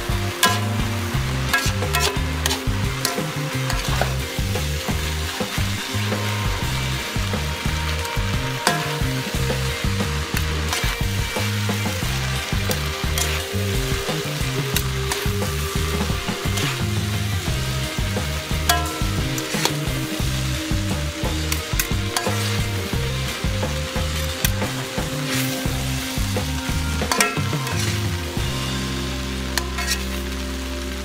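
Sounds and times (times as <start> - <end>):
low rumble: 0.0 - 24.9
utensil scraping a wok: 0.0 - 30.6
noodles sizzling in a wok: 0.0 - 31.0.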